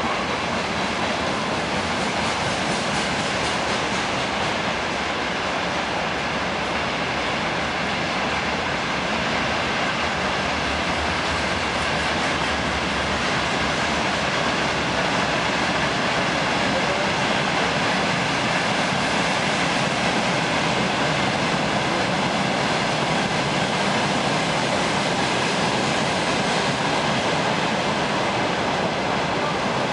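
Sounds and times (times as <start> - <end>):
rail wheels rushing on track: 0.0 - 29.9.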